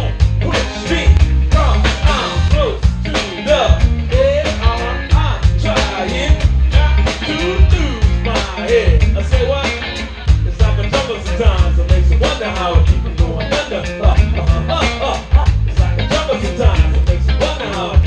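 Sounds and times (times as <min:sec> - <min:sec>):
live ska band: 0:00.0 - 0:18.0
man singing lead: 0:00.0 - 0:18.0.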